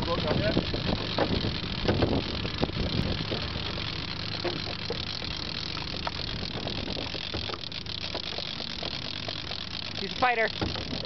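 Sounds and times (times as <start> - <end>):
outboard motor idling: 0.0 - 11.0
wind and water hiss: 0.0 - 11.0.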